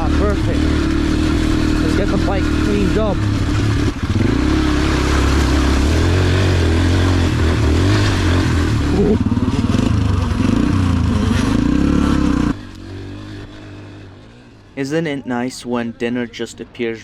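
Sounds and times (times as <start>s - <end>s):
dirt bike engine revving: 0.0s - 14.5s.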